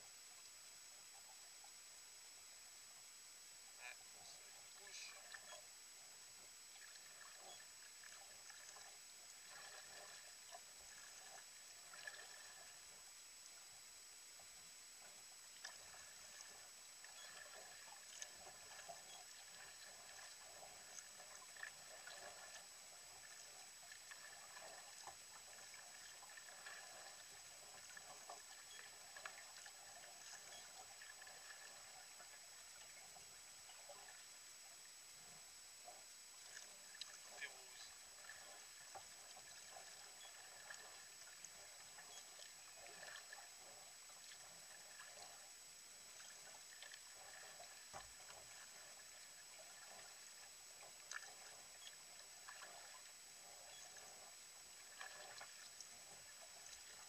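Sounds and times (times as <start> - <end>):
faint high-pitched whine: 0.0 - 57.0
small splashes and ticks: 3.8 - 5.7, 6.6 - 57.0.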